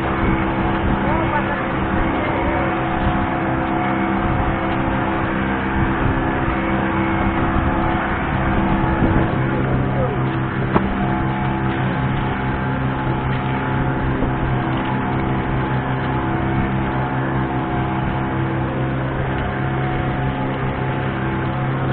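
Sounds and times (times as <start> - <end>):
boat engine droning: 0.0 - 21.9.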